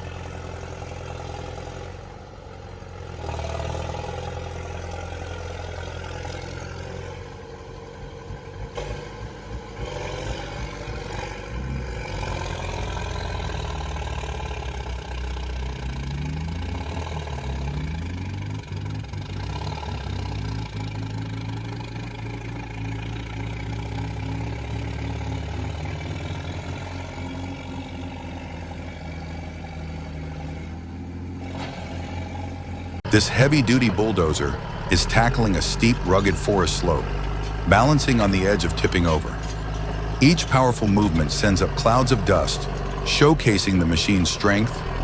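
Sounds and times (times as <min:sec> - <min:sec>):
diesel engine revving under load: 0:00.0 - 0:45.0.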